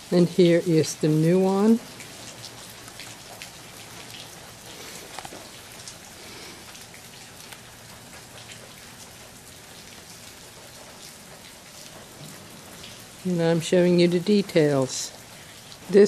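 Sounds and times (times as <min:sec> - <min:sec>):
steady rainfall: 0:00.0 - 0:16.0.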